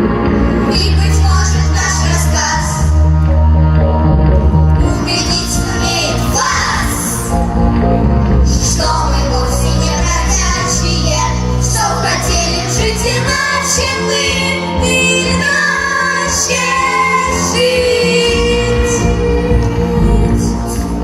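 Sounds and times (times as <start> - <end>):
people singing over pop backing track: 0.0 - 3.5, 4.8 - 7.4, 8.4 - 21.0.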